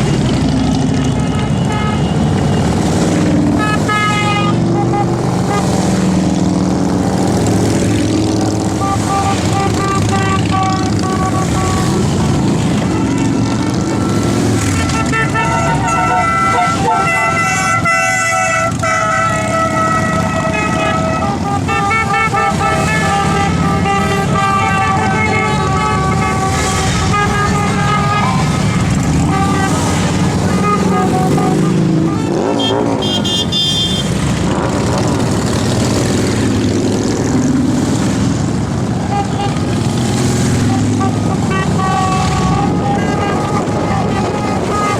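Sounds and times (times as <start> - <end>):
horns tooting: 0.0 - 37.7, 38.5 - 44.9
motorcycle engines rumbling: 0.0 - 44.9.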